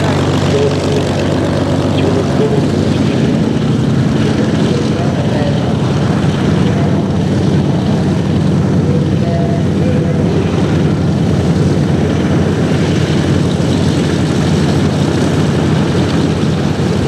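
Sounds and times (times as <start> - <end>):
propeller plane engines droning: 0.0 - 17.0.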